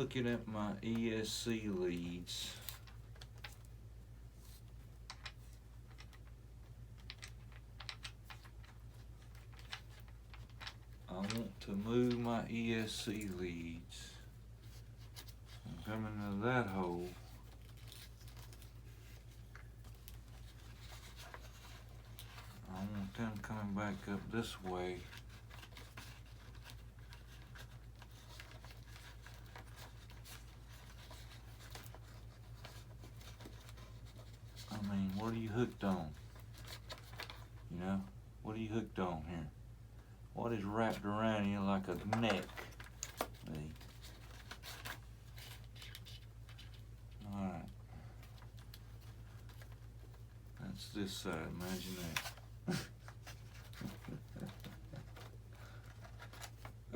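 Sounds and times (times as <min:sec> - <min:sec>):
steady low hum: 0:00.0 - 0:56.9
hands handling wires and plastic parts: 0:01.9 - 0:37.7, 0:41.8 - 0:56.9.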